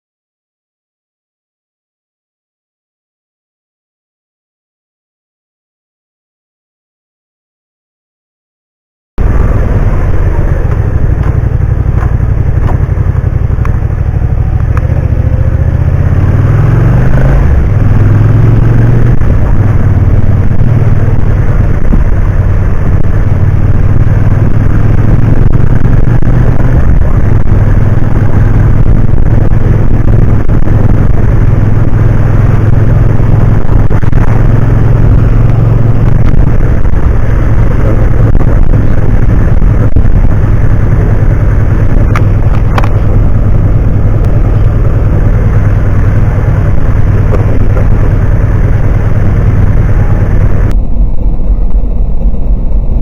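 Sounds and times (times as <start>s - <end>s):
car engine: 9.2s - 53.0s
road noise inside car: 9.2s - 53.0s.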